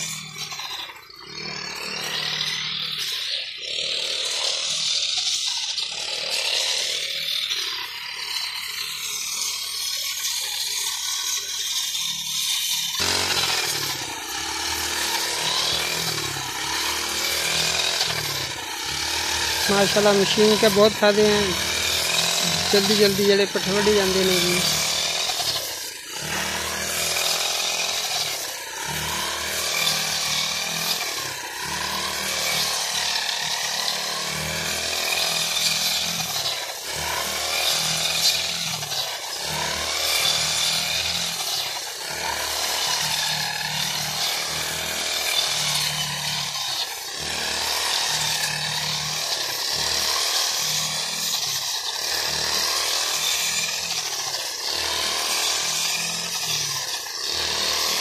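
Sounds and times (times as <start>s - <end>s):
brush cutter engine running hard: 0.0s - 58.0s.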